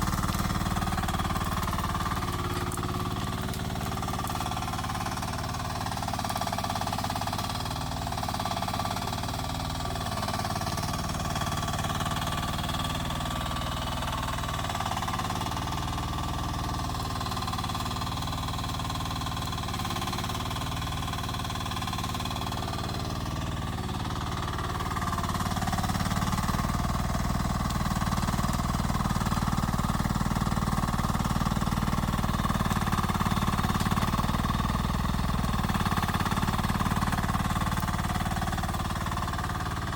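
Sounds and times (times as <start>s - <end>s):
mini excavator running: 0.0s - 39.9s.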